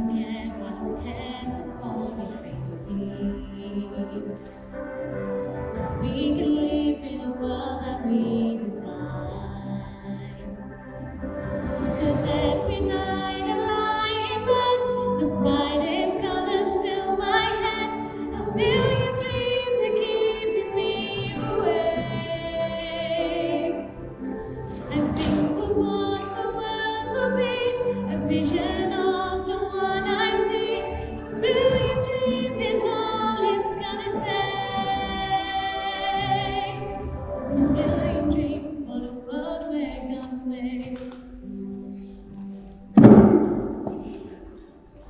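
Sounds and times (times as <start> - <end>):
woman singing with vibrato: 0.0 - 4.5, 5.8 - 10.9, 11.9 - 41.4.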